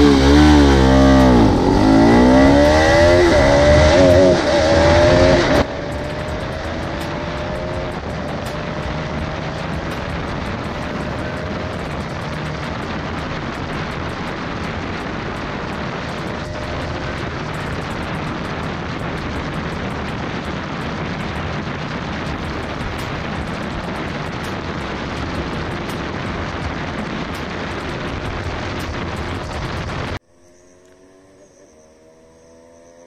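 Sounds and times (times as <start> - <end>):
wind rush on microphone: 0.0 - 30.2
faint motorcycle engine: 0.0 - 33.0.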